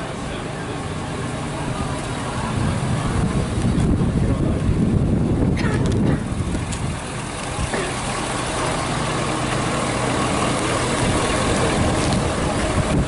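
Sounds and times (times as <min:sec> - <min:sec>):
fire truck engine idling: 0:00.0 - 0:13.0.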